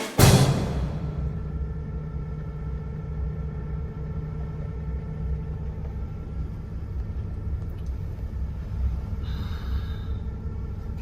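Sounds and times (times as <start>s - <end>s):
high-pitched whine: 0.9s - 11.0s
boat engine rumbling: 1.2s - 11.0s.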